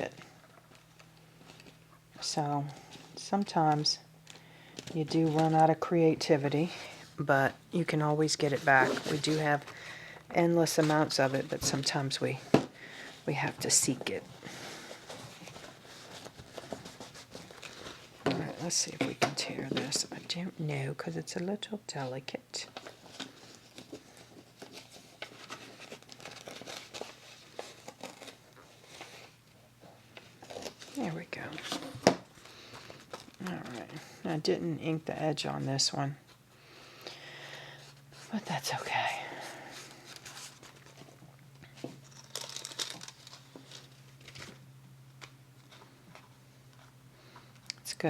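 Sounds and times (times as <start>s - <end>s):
paper rustling and crinkling: 0.0s - 7.1s, 7.8s - 20.4s, 22.6s - 34.2s, 39.4s - 47.6s.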